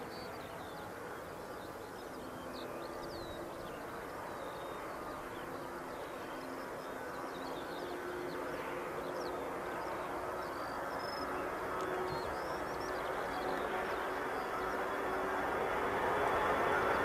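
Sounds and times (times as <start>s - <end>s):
distant jet engine rumble: 0.0s - 17.0s
small birds chirping: 0.0s - 17.0s.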